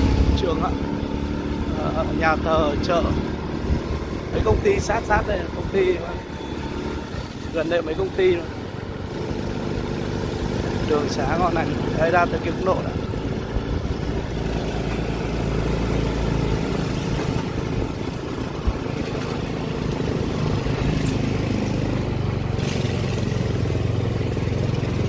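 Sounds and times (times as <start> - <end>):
small motorbike engine running: 0.0 - 25.0.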